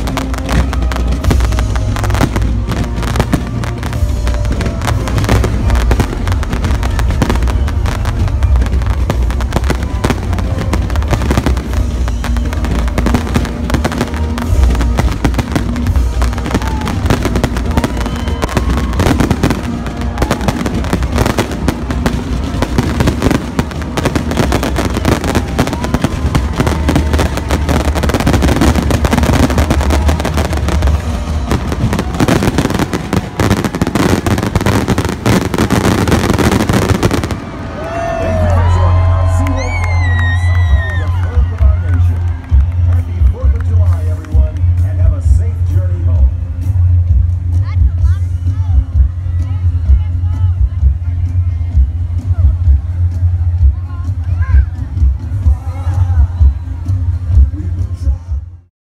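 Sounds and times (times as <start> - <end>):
fireworks bangs and crackles: 0.0 - 58.3
music playing: 0.0 - 58.7.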